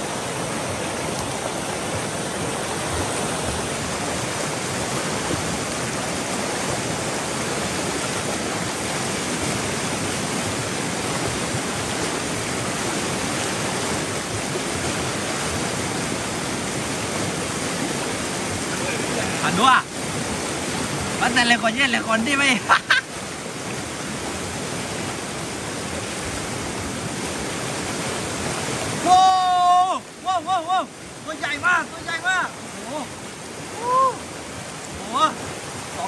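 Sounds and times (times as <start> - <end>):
stream rushing through rapids: 0.0 - 36.0.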